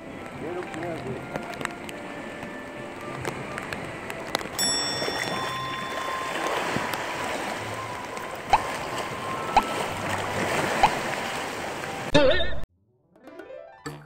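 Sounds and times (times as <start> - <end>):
sea surging against rocks: 0.0 - 12.1.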